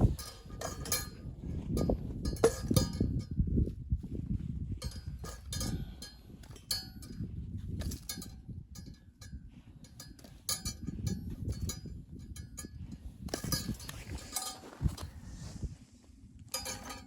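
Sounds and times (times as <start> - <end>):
light metallic clinks: 0.0 - 3.4, 4.8 - 15.4, 16.5 - 17.0
steady low rumble: 0.0 - 17.0.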